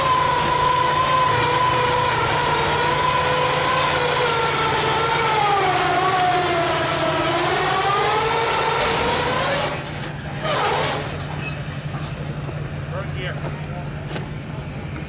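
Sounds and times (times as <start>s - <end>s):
electric winch whining: 0.0s - 12.3s
low engine hum: 0.0s - 15.0s.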